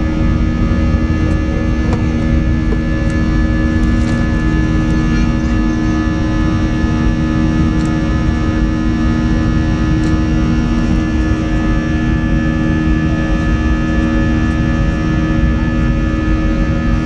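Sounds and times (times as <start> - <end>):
jet engines heard inside cabin: 0.0 - 17.0.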